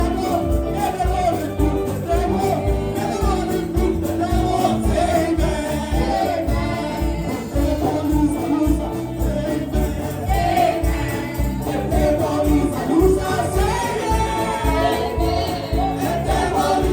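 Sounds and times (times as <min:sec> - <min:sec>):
percussion beat: 0:00.0 - 0:16.9
voices singing gospel: 0:00.0 - 0:16.9.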